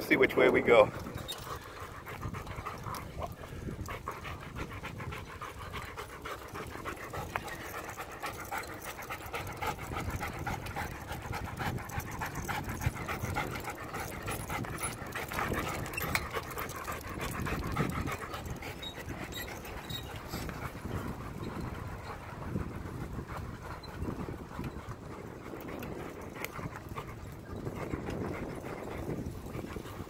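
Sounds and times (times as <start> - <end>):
dog panting fast: 0.0 - 30.0.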